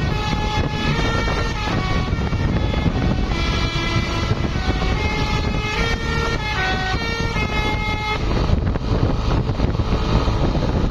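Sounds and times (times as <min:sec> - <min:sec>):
multi-tone bus horn tune: 0:00.0 - 0:08.8
steady low rumble: 0:00.0 - 0:10.9.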